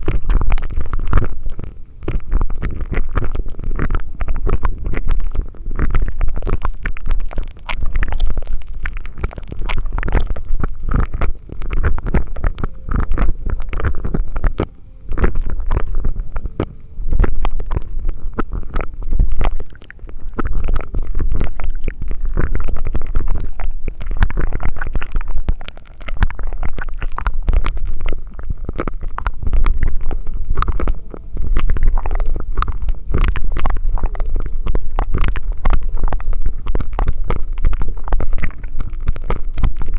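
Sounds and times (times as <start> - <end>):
low rumble: 0.0 - 39.9
wet mouth crackling and clicking: 0.0 - 39.9.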